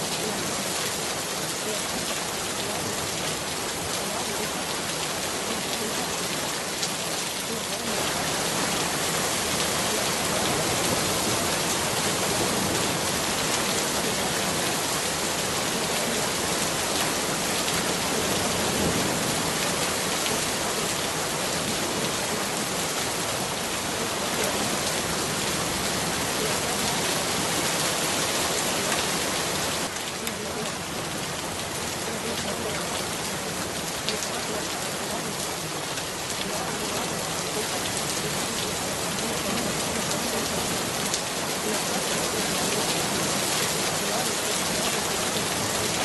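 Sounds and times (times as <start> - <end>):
steady rain hiss: 0.0 - 46.0.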